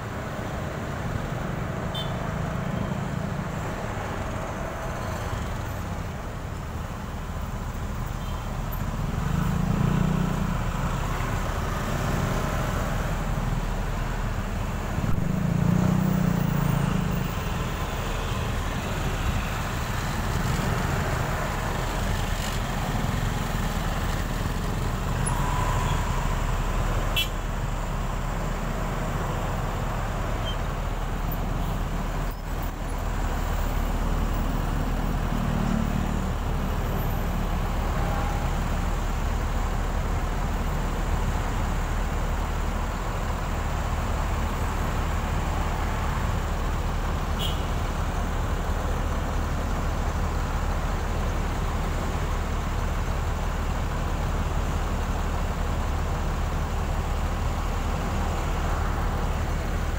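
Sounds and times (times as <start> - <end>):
traffic engine and road noise: 0.0 - 59.9.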